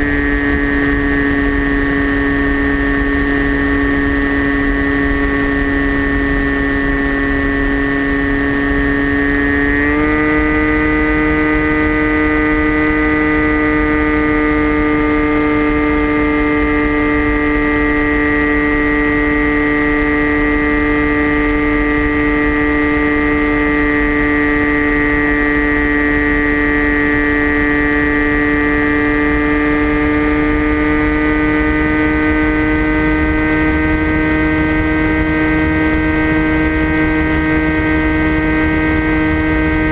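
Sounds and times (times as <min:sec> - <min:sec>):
electric motor propeller whine: 0:00.0 - 0:39.9.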